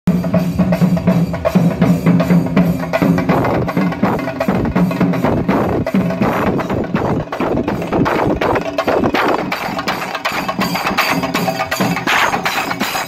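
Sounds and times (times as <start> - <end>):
drums beaten with sticks: 0.1 - 13.0.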